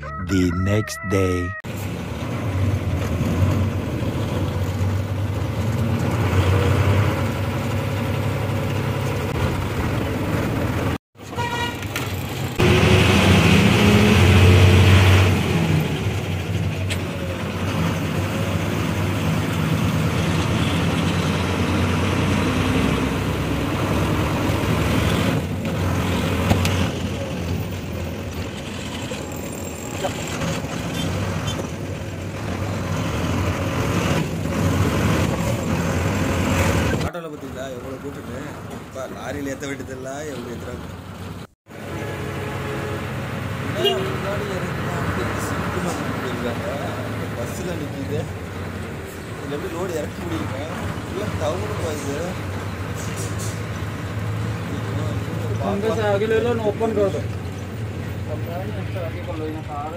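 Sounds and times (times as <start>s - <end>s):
road noise: 0.0s - 59.9s.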